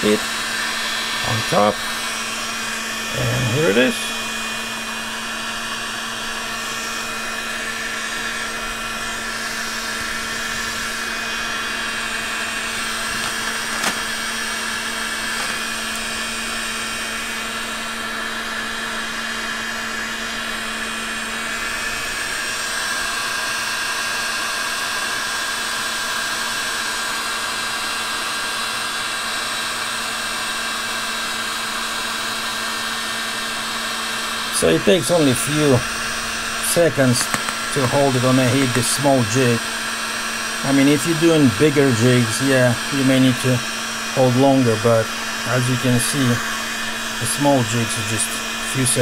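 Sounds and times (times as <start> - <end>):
heat gun blowing air: 0.0 - 49.0.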